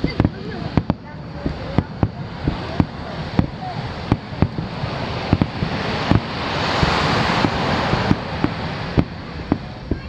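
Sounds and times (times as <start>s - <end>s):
fireworks bangs: 0.0s - 10.0s
rushing hiss: 0.0s - 10.0s.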